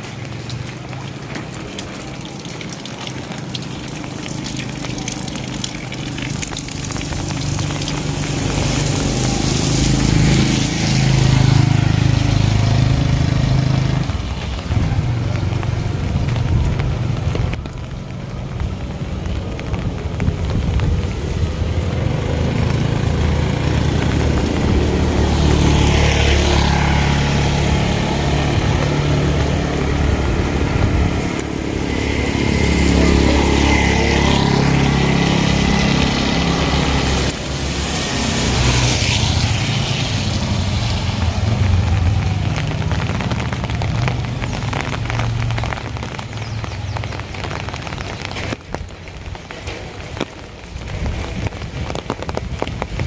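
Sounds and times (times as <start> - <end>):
vehicles driving past: 0.0 - 53.0.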